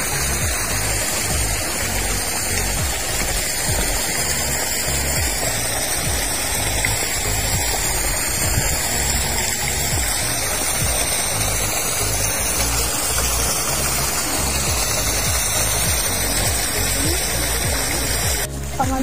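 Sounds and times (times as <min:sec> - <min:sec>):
background music with bass line: 0:00.0 - 0:19.0
steady rushing noise: 0:00.0 - 0:19.0.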